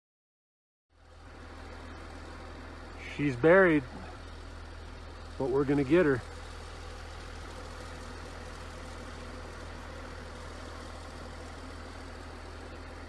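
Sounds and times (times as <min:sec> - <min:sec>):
diesel engine idling: 0:00.9 - 0:13.0.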